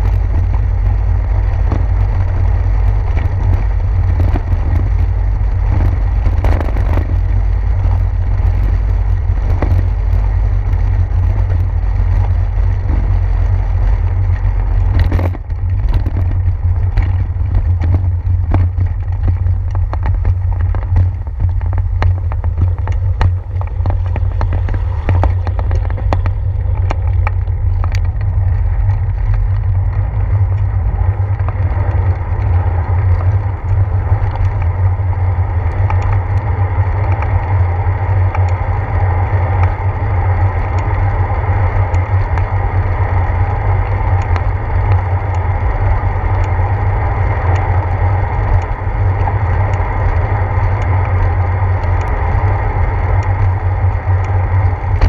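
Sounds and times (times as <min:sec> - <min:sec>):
bicycle rattles over bumps: 0:00.0 - 0:55.0
bicycle road vibration: 0:00.0 - 0:55.0
wind rumble: 0:00.0 - 0:55.0.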